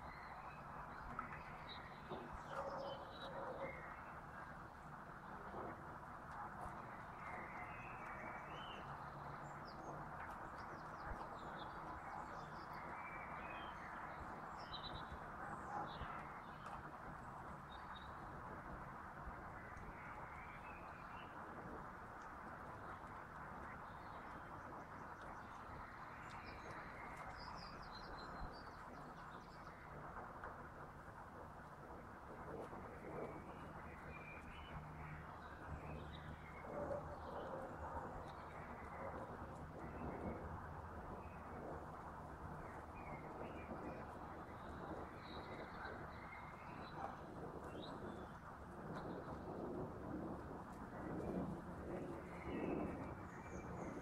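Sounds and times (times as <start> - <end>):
low outdoor background rumble: 0.0 - 54.0.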